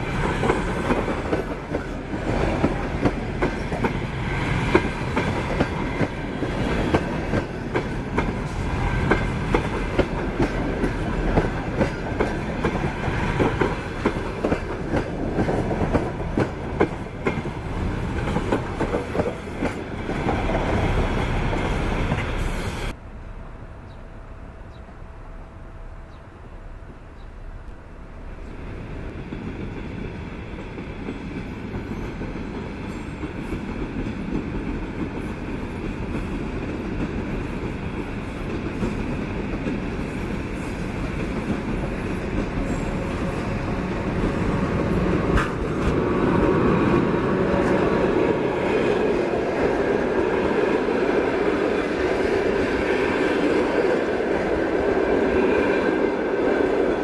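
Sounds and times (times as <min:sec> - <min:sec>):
train wheels rumbling on rails: 0:00.0 - 0:25.4, 0:26.0 - 0:57.0.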